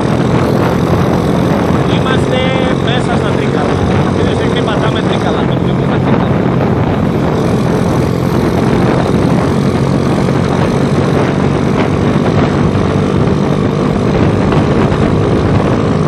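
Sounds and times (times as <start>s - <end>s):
motorcycle engine running: 0.0s - 16.0s
wind and road noise rushing: 0.0s - 16.0s.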